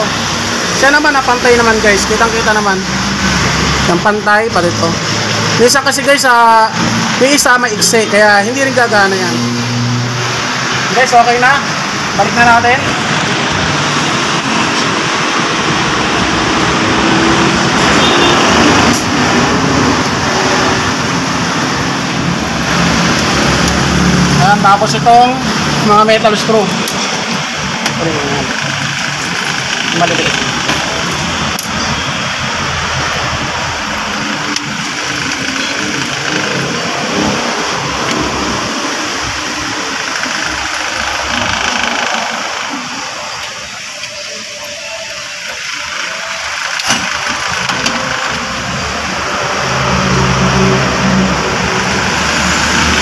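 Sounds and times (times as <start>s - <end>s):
machine running: 0.0s - 53.0s
road traffic noise: 0.0s - 53.0s.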